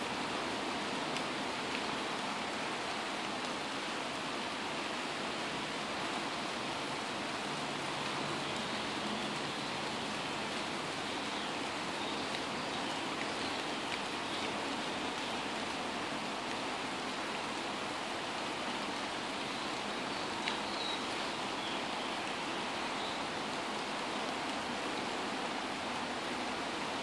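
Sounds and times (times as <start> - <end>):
rain falling on trees: 0.0 - 27.0.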